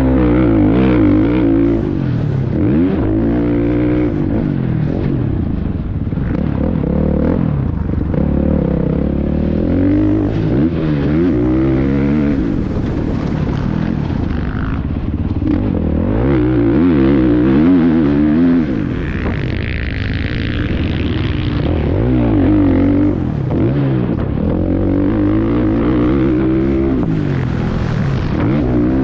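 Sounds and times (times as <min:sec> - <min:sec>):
motocross bike engine revving: 0:00.0 - 0:05.5, 0:06.1 - 0:29.0
wind rush on microphone: 0:00.9 - 0:29.0.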